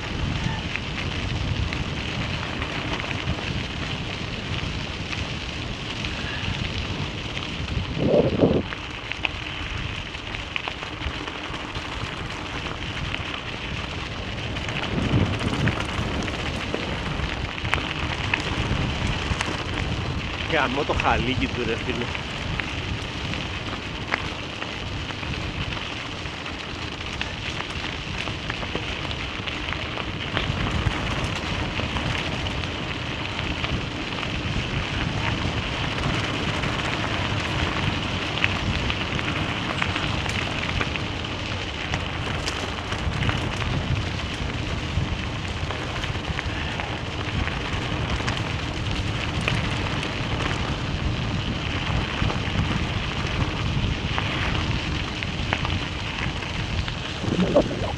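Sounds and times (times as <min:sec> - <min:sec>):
flicked gravel ticks: 0:00.0 - 0:57.9
tyres crunching on gravel: 0:00.0 - 0:57.9.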